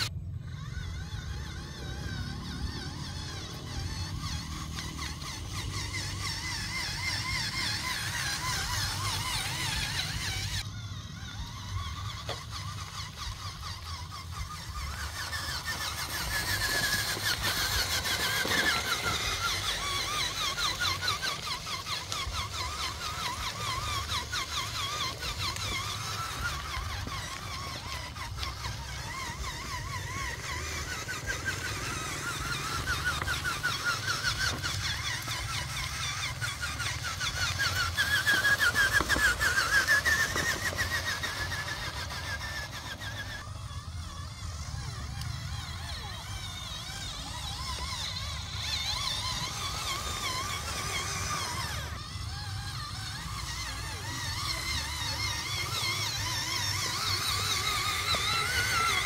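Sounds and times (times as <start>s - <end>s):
model tractor motor whine: 0.0s - 59.0s.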